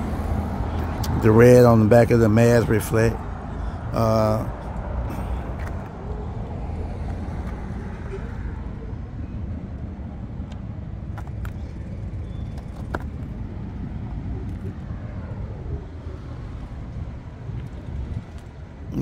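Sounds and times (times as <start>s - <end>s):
low vehicle rumble: 0.0s - 19.0s.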